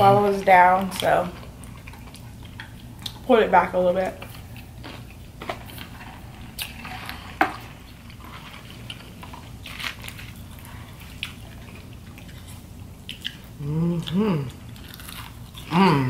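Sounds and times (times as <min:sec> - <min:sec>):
chewing and biting: 0:01.4 - 0:03.3, 0:04.2 - 0:15.9.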